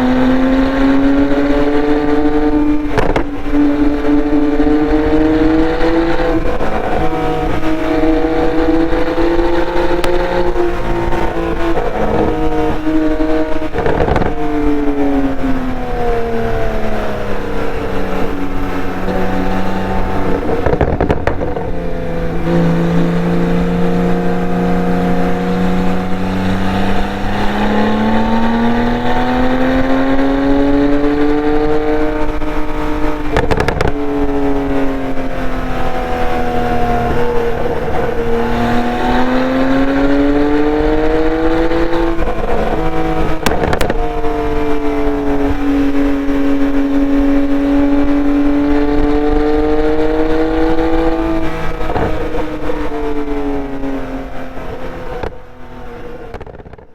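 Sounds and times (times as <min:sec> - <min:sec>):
sports car engine accelerating: 0:00.0 - 0:56.9.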